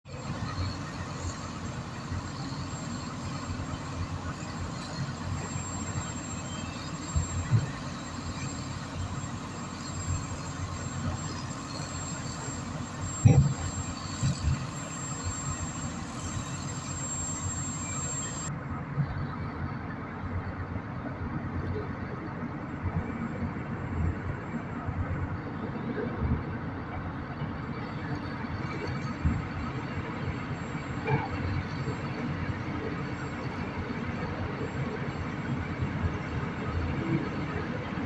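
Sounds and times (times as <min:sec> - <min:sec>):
diesel truck and excavator running: 0:00.1 - 0:38.0.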